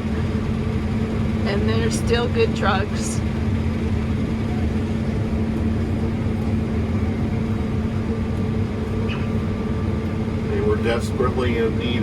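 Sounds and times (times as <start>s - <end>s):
combine harvester drone: 0.0s - 12.0s
constant hum: 0.0s - 12.0s.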